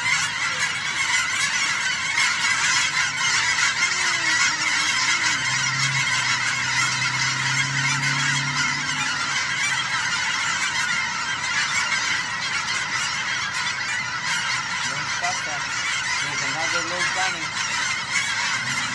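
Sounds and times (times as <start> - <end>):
flock of geese honking: 0.0 - 18.9.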